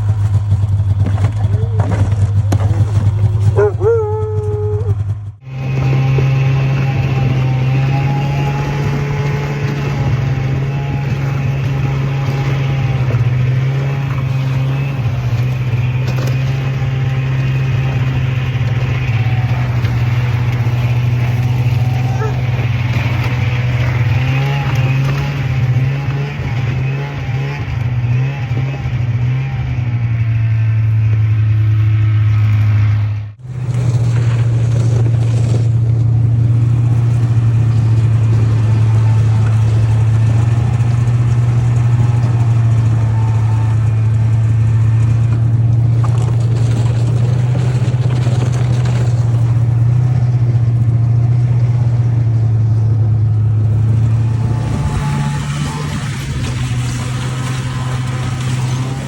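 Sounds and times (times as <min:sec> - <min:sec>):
vehicle engine hum while driving: 0:00.0 - 0:59.0.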